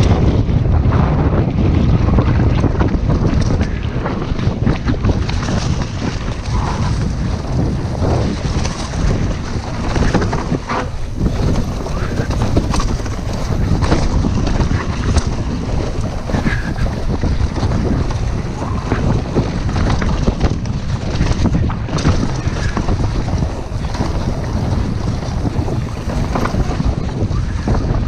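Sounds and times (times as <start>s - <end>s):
bike rattles and knocks: 0.0s - 28.0s
wind buffeting microphone: 0.0s - 28.0s
tyre rumble on dirt: 4.6s - 28.0s.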